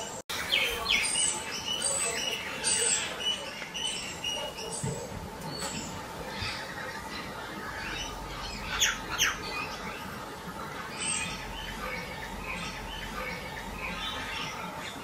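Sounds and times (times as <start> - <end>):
downward-sweeping bird calls: 0.0 - 15.0.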